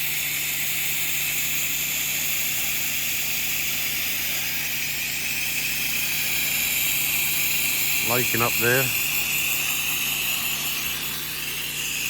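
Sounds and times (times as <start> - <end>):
hiss of spray: 0.0 - 12.0
pump hum: 0.0 - 12.0.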